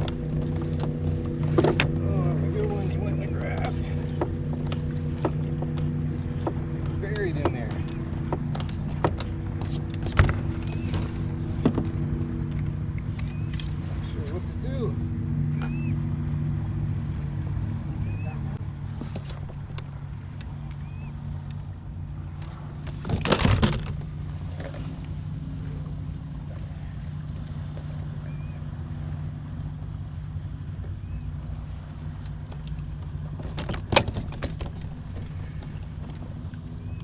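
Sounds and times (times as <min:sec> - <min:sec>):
motor droning: 0:00.0 - 0:37.0.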